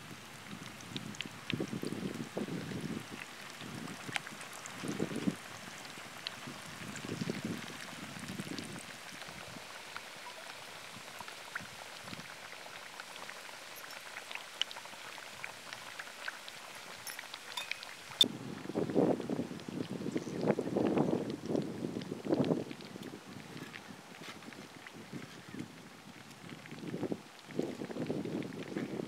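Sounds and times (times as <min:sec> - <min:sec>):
food deep-frying in oil: 0:00.0 - 0:29.0.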